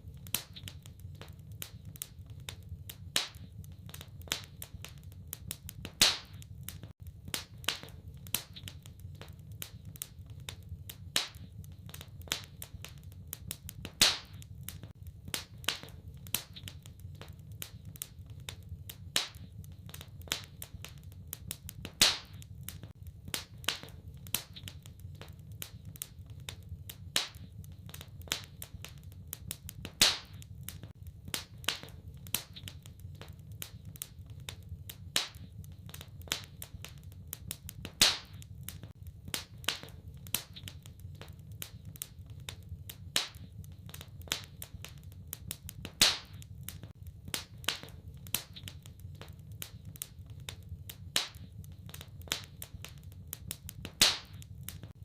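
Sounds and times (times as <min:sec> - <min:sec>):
fire popping: 0:00.0 - 0:55.0
low fire rumble: 0:00.0 - 0:55.0
wood fire crackling: 0:00.0 - 0:55.0.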